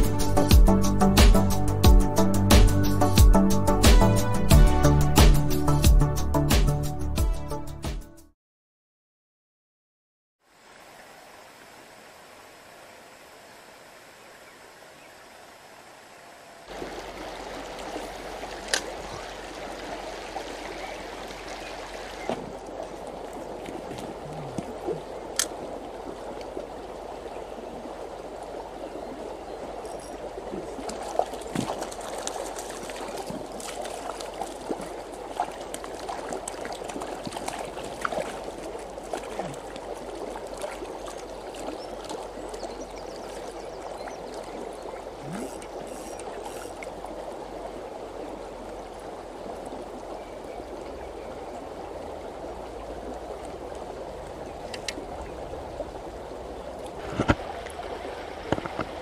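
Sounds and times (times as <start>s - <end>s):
river running over gravel: 10.4s - 59.0s.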